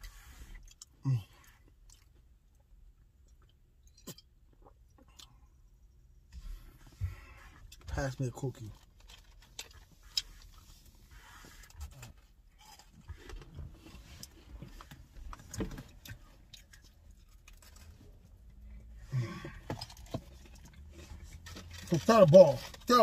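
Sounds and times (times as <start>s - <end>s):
soft handling clicks and rustles: 0.0s - 23.0s.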